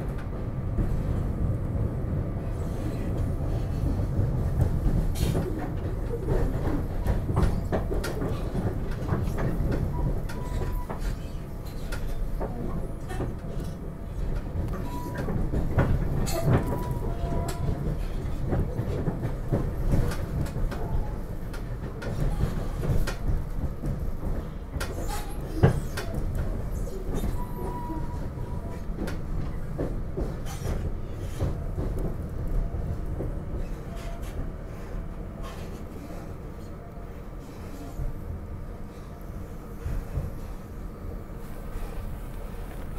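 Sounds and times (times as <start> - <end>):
train rumble inside carriage: 0.0 - 42.9.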